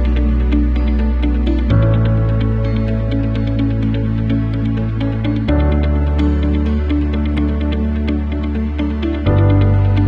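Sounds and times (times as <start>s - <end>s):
soft new-age background music: 0.0s - 10.0s.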